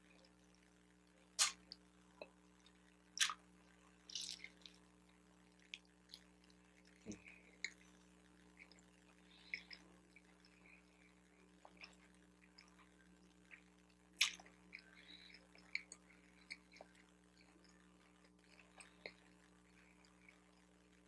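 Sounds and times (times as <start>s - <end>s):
chewing and mouth sounds: 1.4s - 3.4s, 4.1s - 21.0s.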